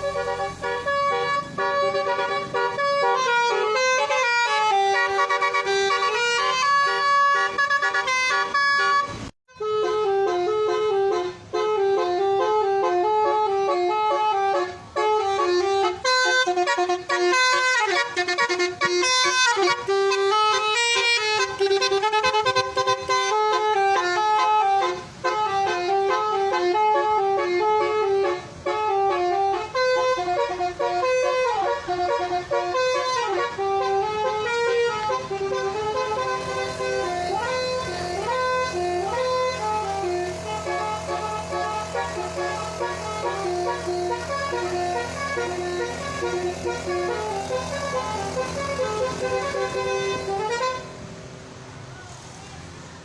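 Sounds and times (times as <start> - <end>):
horn trumpets playing fast tunes: 0.0 - 51.2.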